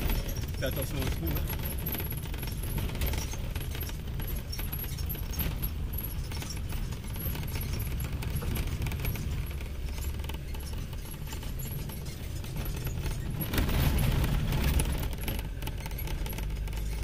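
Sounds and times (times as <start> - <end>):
car body rattling and clinking: 0.0 - 17.0
car engine low drone: 0.0 - 17.0.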